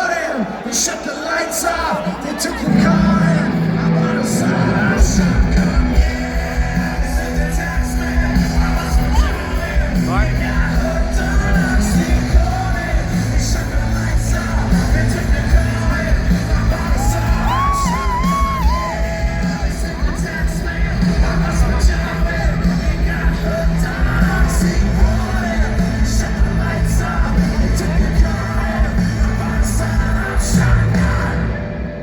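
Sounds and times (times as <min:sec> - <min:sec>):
person singing lead vocal: 0:00.0 - 0:32.0
rock band playing live: 0:01.7 - 0:32.0
drums and bass: 0:02.6 - 0:32.0.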